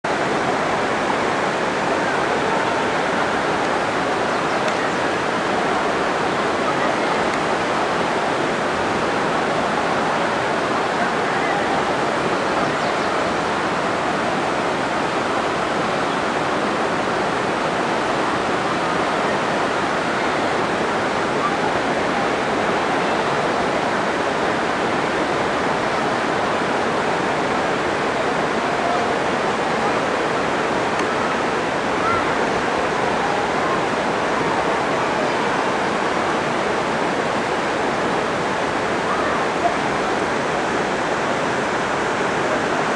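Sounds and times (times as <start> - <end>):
river rapids rushing: 0.1 - 42.9.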